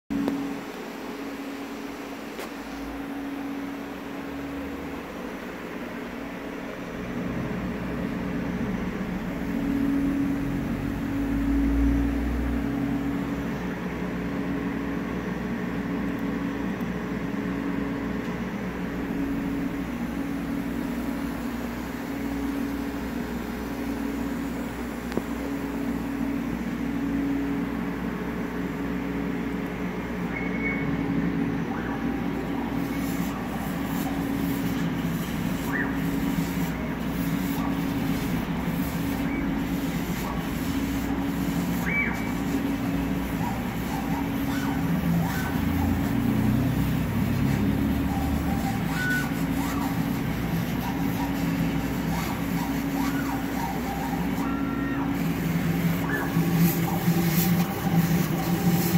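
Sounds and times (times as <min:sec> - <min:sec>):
laser cutter humming: 0:00.1 - 0:58.9.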